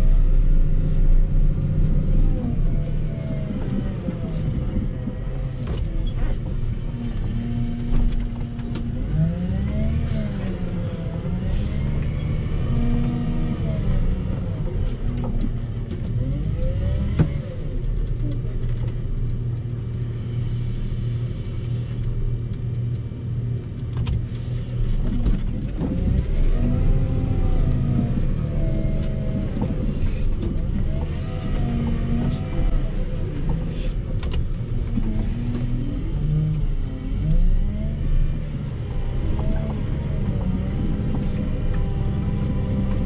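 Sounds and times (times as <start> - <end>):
diesel engine revving: 0.0 - 18.2, 24.7 - 43.0.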